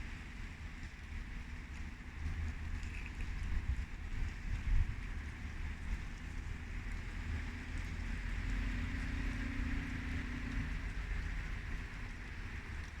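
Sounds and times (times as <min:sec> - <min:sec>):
steady rain: 0:00.0 - 0:13.0
wind buffeting microphone: 0:01.1 - 0:13.0.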